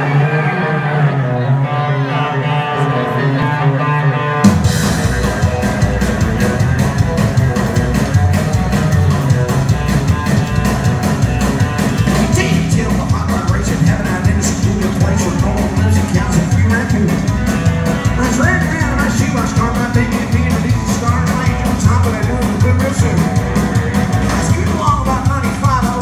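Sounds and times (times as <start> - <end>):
electric guitar sustained notes: 0.0 - 26.0
upright bass: 2.4 - 26.0
drums beat: 4.4 - 26.0.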